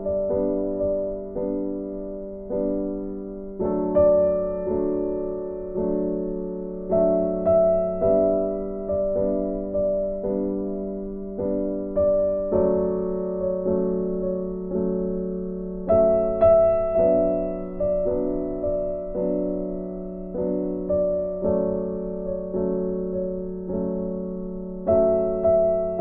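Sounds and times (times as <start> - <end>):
piano notes and chords: 0.0 - 26.0.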